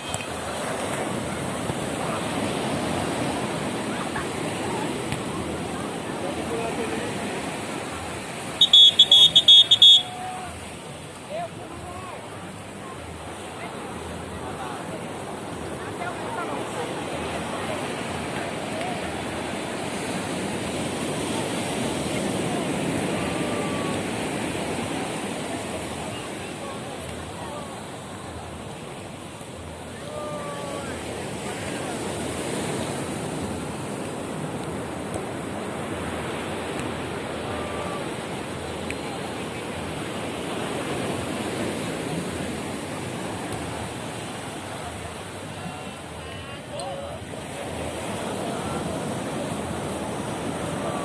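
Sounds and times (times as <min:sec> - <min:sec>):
faint distant voices: 0:00.0 - 0:51.0
surf rushing on beach: 0:00.0 - 0:51.0.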